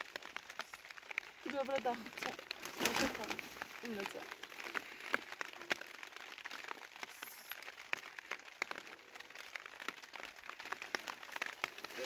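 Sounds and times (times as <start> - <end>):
plastic sheeting ticking and crackling: 0.0 - 12.0.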